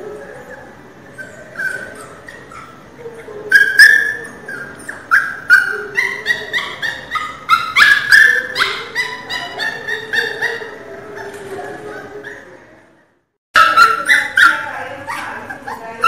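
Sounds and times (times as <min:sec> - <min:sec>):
puppy squealing and whimpering: 0:00.0 - 0:12.5, 0:13.6 - 0:16.0.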